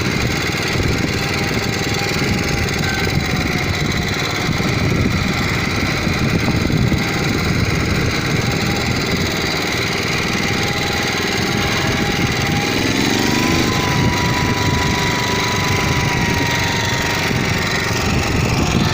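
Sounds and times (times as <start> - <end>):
small tractor engine chugging: 0.0 - 18.9.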